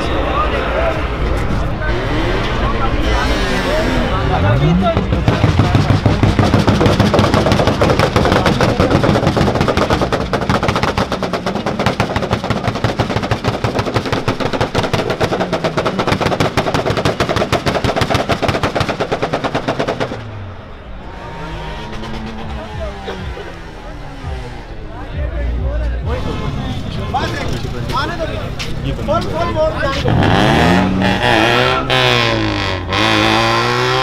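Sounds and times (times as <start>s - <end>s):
car engine revving: 0.0s - 34.0s
exhaust popping: 1.3s - 25.3s, 26.0s - 34.0s.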